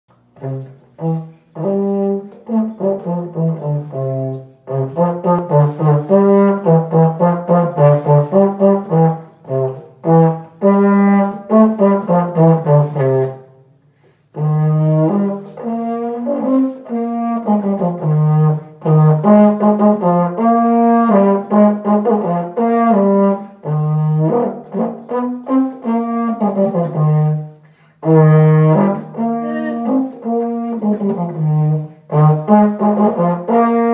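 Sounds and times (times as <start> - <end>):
solo euphonium melody: 0.3 - 33.9.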